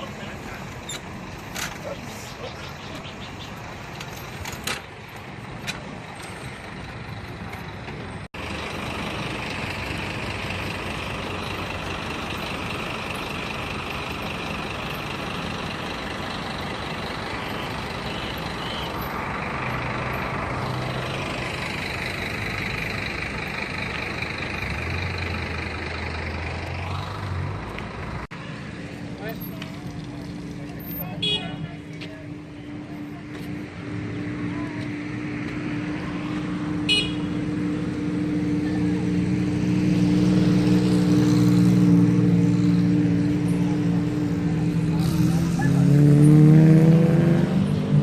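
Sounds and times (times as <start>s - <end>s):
motor vehicle engines running: 0.0s - 48.0s.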